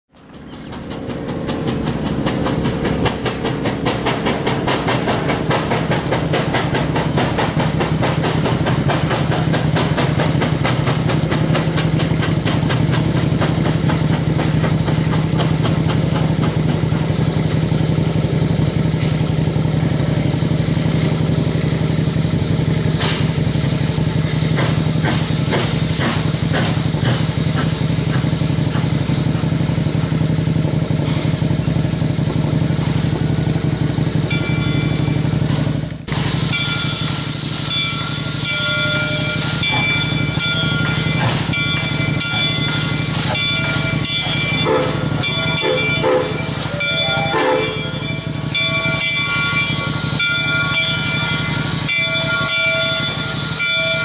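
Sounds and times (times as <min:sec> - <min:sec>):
steam locomotive chuffing: 0:00.1 - 0:54.0
motorcycle engine idling: 0:00.2 - 0:37.2, 0:38.1 - 0:52.3.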